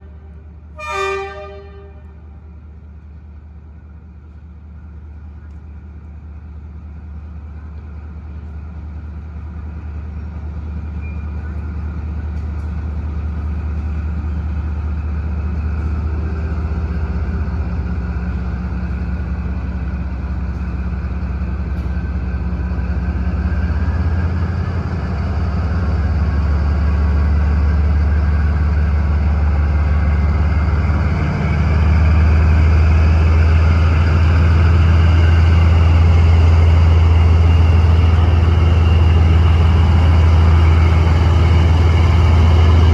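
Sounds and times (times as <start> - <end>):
locomotive engine droning: 0.0 - 42.9.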